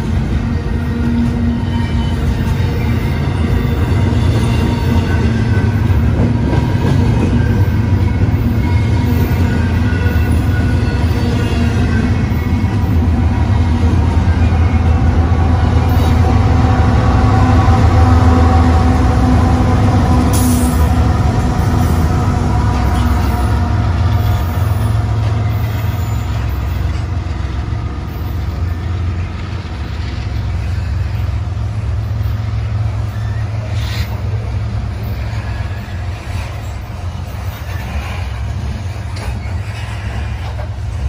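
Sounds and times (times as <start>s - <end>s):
diesel locomotive engines droning: 0.0s - 41.0s
train wheels rumbling on rails: 0.0s - 41.0s.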